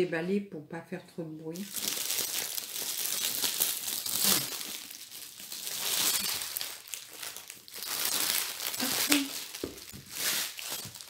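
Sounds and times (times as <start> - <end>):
plastic wrapping crinkling: 1.6 - 11.0.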